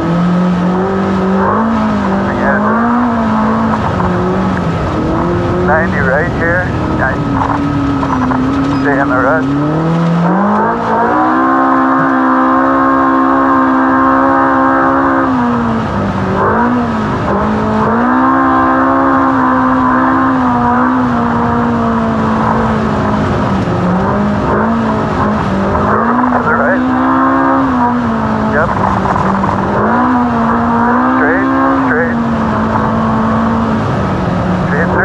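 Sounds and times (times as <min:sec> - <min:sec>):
race car engine at high revs: 0:00.0 - 0:35.0.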